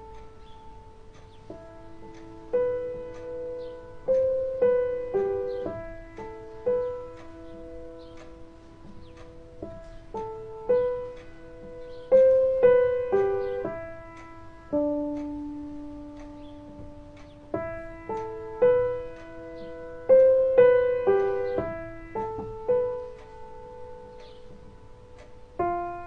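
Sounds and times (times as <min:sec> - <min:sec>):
slow solo piano melody: 0:00.0 - 0:26.0.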